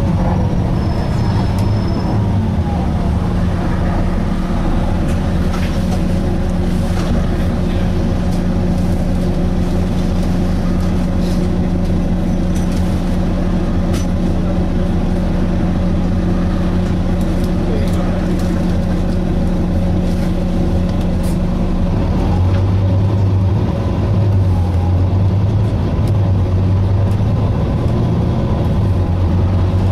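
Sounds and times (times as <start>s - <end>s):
bus diesel engine droning: 0.0s - 29.9s.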